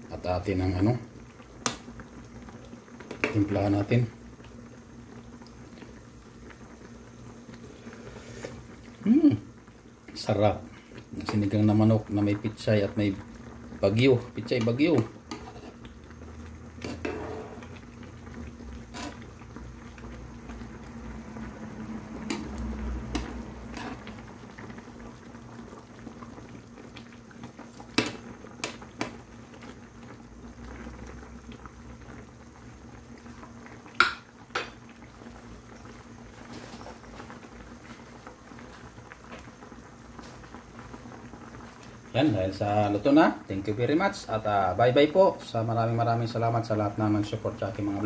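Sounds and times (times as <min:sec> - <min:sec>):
soup bubbling in a pan: 0:00.0 - 0:48.0.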